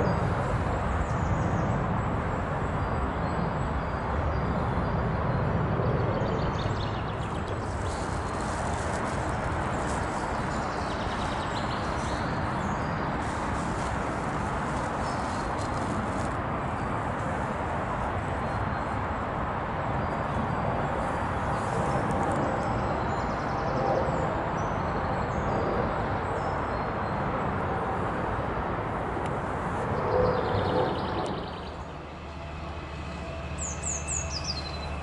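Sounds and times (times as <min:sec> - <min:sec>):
steady rushing noise: 0:00.0 - 0:24.6, 0:27.4 - 0:35.0.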